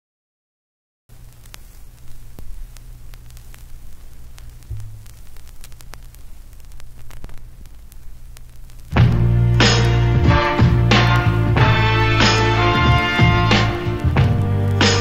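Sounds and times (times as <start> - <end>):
low hum: 1.1 - 15.0
static crackles and clicks: 1.1 - 15.0.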